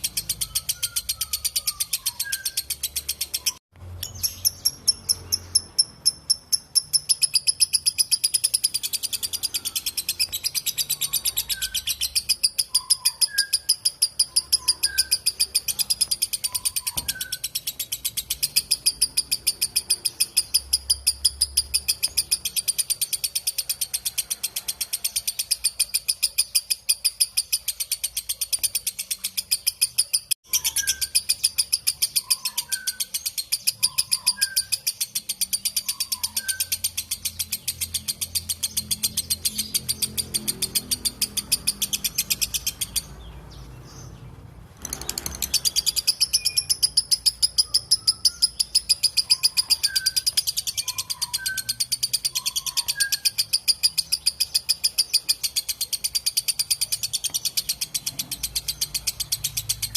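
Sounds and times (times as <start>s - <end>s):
lovebird shrill chattering trill: 0.0s - 43.2s, 44.8s - 59.9s.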